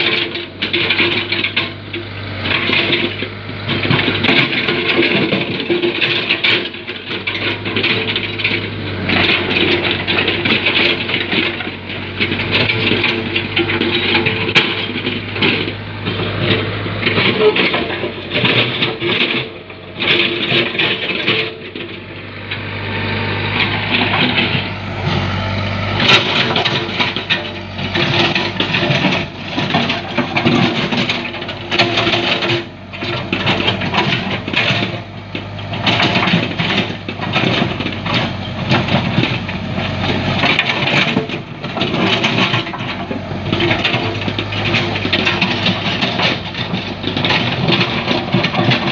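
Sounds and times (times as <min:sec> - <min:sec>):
scraping and clattering: 0:00.0 - 0:22.2, 0:23.4 - 0:48.9
diesel engine running: 0:00.0 - 0:48.9.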